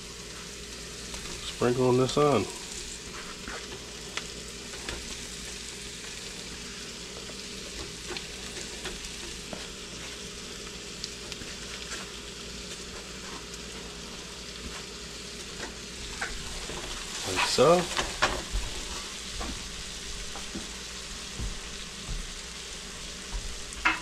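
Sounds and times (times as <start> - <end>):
chicken sizzling in a pan: 0.0 - 24.0.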